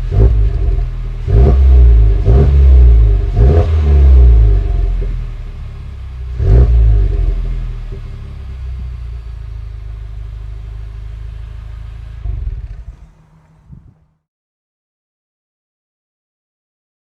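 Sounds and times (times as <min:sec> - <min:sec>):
car engine revving and idling: 0:00.0 - 0:14.2.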